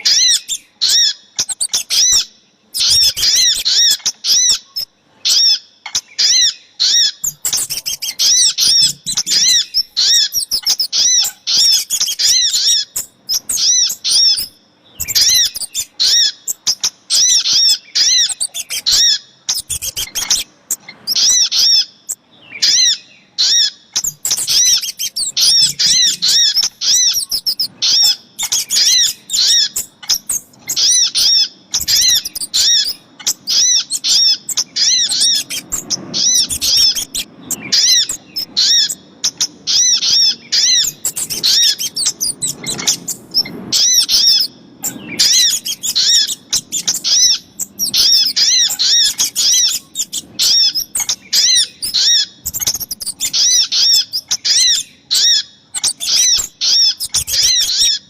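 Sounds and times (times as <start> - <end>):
high arched bird chirps: 0.0 - 58.0.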